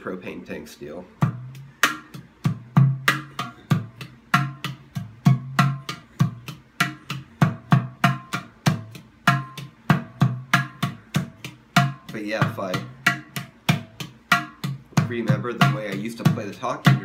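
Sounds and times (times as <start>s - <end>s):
steel handpan struck with fingers: 1.3s - 14.9s.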